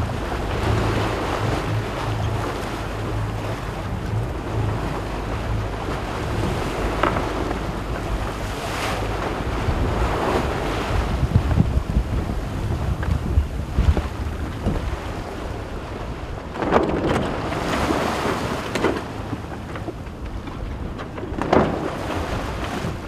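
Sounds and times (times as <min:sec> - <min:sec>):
water rushing along hull: 0:00.0 - 0:23.0
wind buffeting microphone: 0:00.0 - 0:23.0.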